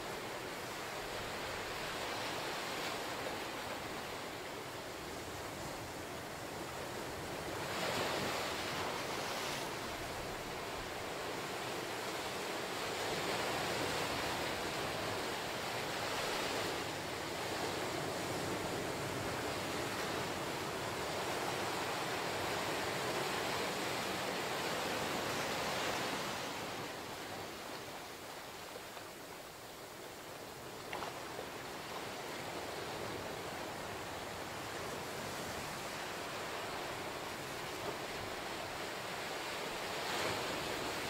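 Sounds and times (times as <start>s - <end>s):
ocean surf washing ashore: 0.0s - 41.0s.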